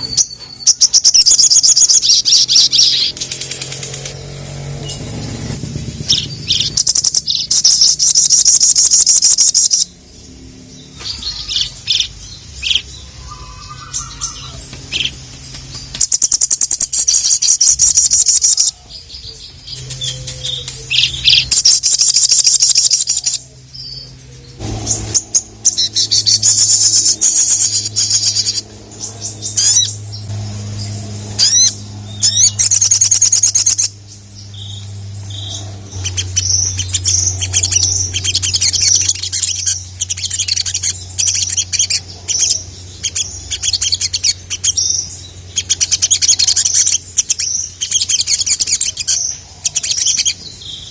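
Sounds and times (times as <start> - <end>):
bird singing rapid chattering notes: 0.0 - 50.9
steady low hum: 0.0 - 50.9.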